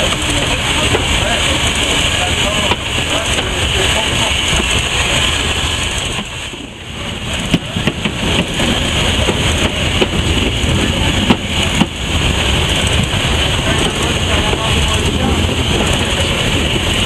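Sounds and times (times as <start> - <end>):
steam locomotive hiss and rumble: 0.0 - 17.0.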